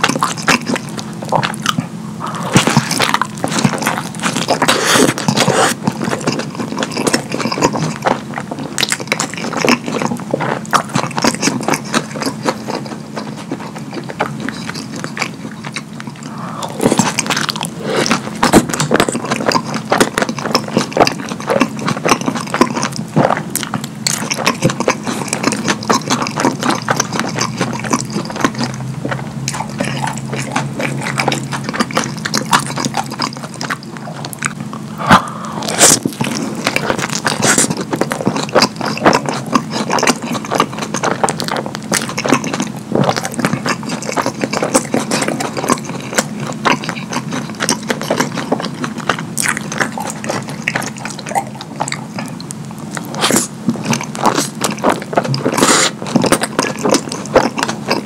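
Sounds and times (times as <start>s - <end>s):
wet chewing and mouth smacking: 0.0s - 58.0s.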